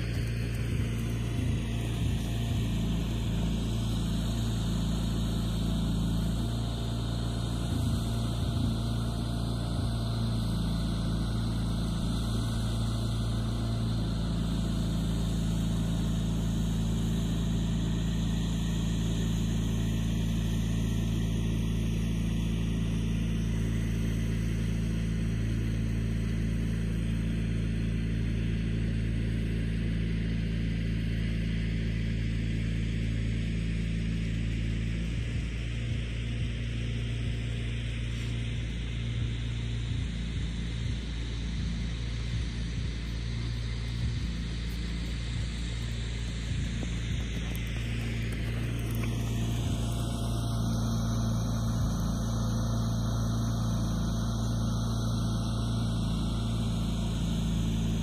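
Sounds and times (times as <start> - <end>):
motor humming: 0.0 - 27.0, 37.4 - 58.0.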